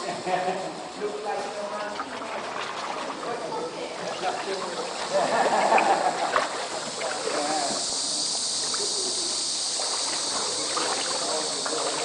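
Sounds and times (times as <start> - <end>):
high-pitched insect chorus: 0.0 - 12.0
faint voices talking: 0.7 - 12.0.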